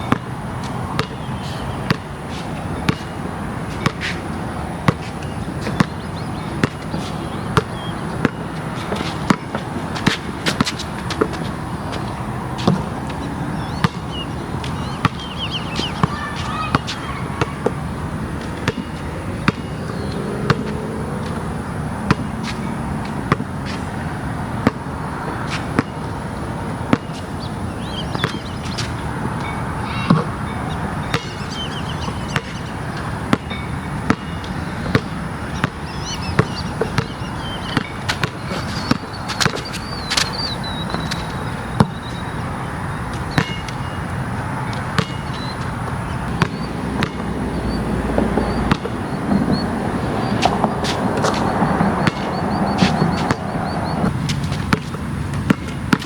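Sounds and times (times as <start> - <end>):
basketball bouncing on ground: 0.0 - 56.0.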